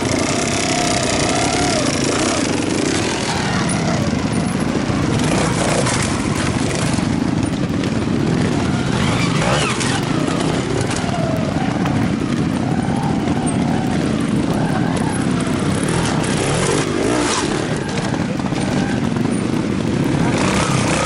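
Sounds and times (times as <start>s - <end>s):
motorcycle engines revving low: 0.0s - 21.0s.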